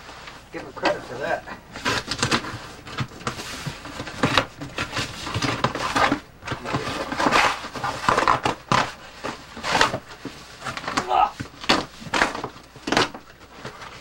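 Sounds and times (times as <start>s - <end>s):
packing material rustling: 0.0s - 14.0s.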